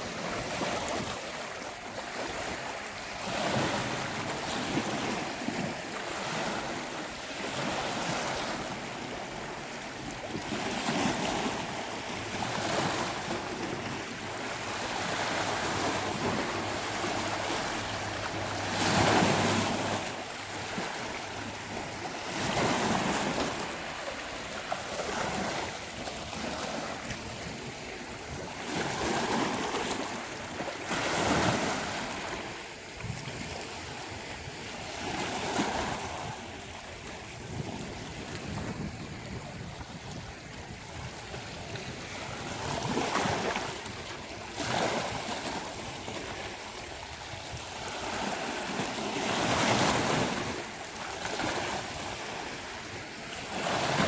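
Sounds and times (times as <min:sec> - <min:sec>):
sea waves breaking on beach: 0:00.0 - 0:54.0.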